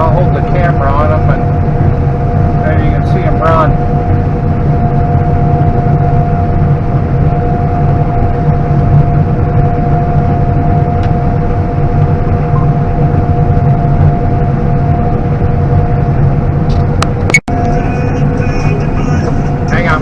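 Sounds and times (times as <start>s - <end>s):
combine engine low drone: 0.0s - 20.0s
steady whining tones: 0.0s - 20.0s.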